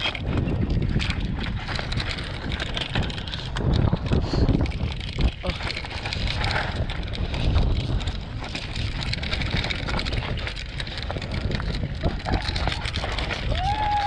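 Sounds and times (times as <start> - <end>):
bike clattering and rattling: 0.0 - 14.0
tyres crunching over stones: 0.0 - 14.0
wind buffeting microphone: 0.0 - 14.0.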